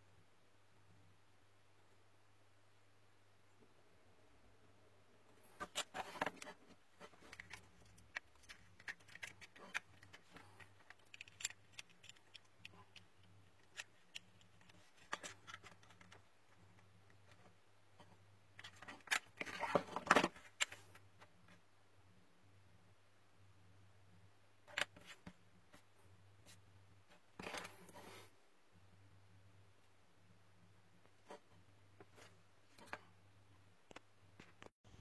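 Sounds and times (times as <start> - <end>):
faint low electrical hum: 0.0 - 35.0.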